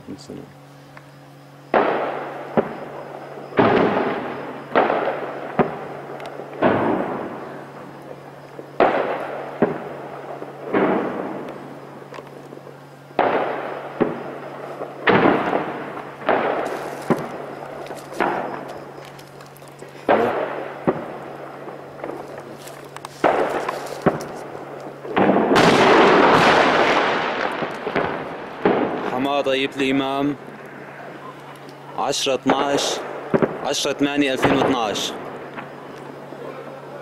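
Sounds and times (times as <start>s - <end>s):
explosions with long echo: 1.7s - 19.0s, 20.0s - 22.6s, 23.2s - 37.0s.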